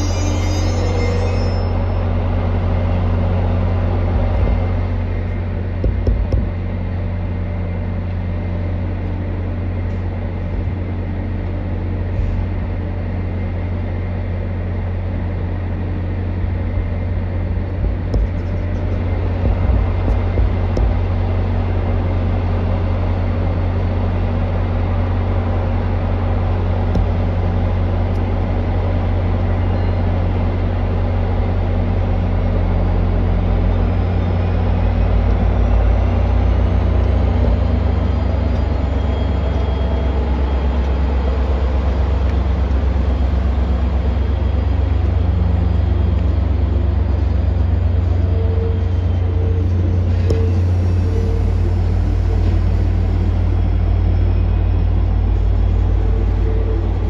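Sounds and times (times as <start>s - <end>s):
diesel locomotive idling: 0.0s - 57.0s.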